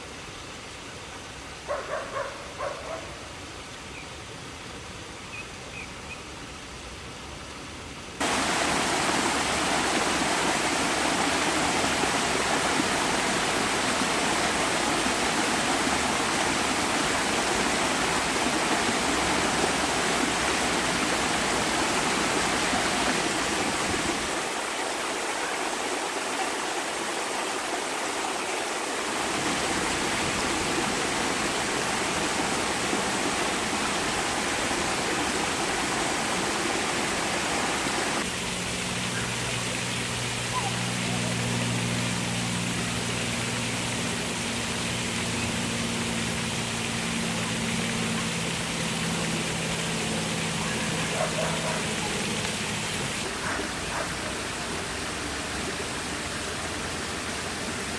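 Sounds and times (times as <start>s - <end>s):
waterfall rushing: 8.2s - 57.9s.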